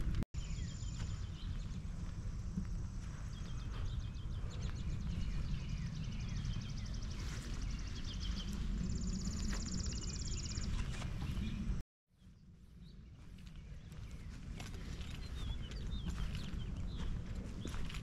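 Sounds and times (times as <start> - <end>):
bird chirps: 0.4 - 2.2, 3.1 - 17.9
songbirds trilling: 0.4 - 18.0.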